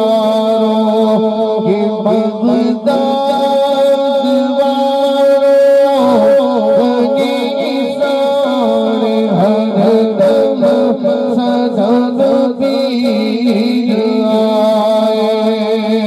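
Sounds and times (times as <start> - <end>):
man singing into microphone: 0.0 - 16.0
steady held drone: 0.0 - 16.0.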